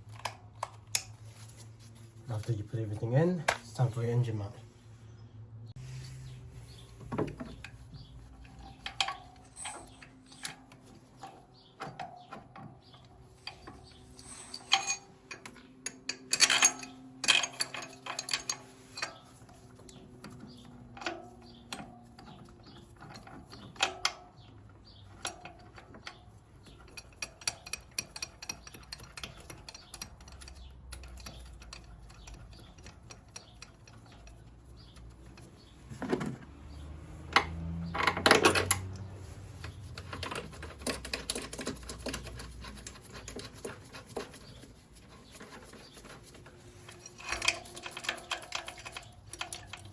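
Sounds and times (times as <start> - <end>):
metal tools clinking and knocking: 6.8 - 49.9.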